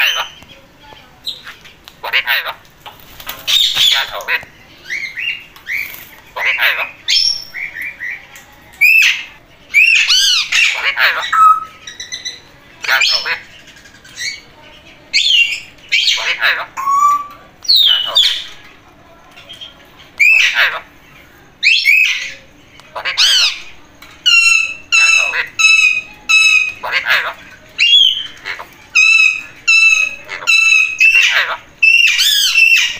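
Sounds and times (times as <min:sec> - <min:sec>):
parakeet calling: 0:00.0 - 0:00.4, 0:01.2 - 0:08.2, 0:08.8 - 0:14.5, 0:15.1 - 0:18.6, 0:19.5 - 0:21.0, 0:21.6 - 0:32.9.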